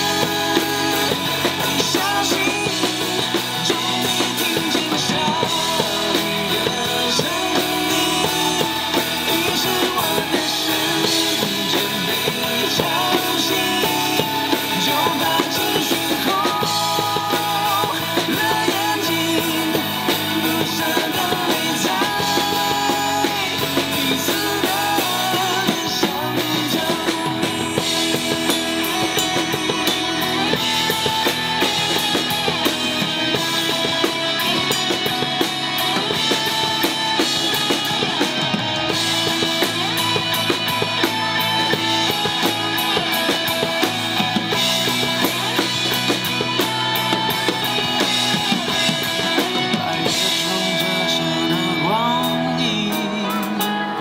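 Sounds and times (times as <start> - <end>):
acoustic drum kit beat: 0.0 - 54.0
pop backing track: 0.0 - 54.0.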